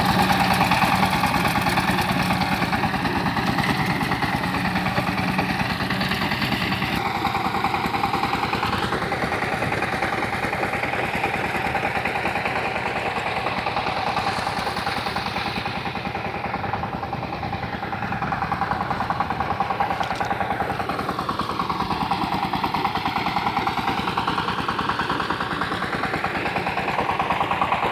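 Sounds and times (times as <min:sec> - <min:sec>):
tiller engine chugging: 0:00.0 - 0:27.9.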